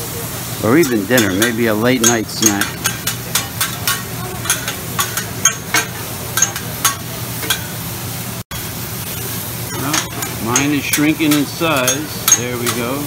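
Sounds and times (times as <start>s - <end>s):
stir-fry sizzling: 0.0s - 13.0s
metal spatulas scraping on griddle: 0.6s - 7.8s, 9.0s - 13.0s.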